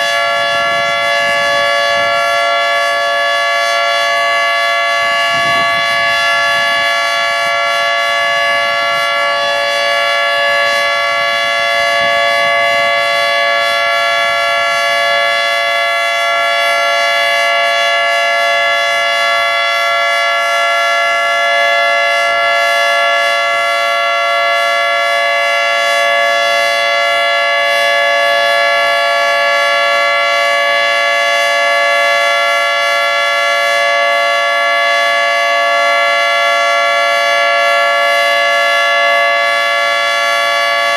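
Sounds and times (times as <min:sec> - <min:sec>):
three-tone warning siren: 0:00.0 - 0:40.9.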